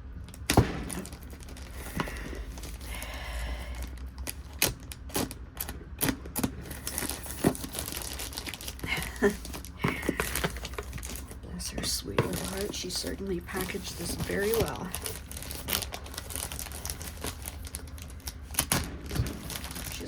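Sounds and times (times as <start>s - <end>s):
packing material crinkling and tearing: 0.0s - 20.0s.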